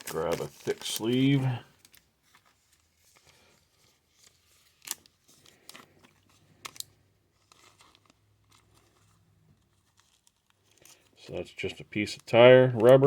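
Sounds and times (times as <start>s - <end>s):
plastic sleeve and cards rustling: 0.0s - 13.0s.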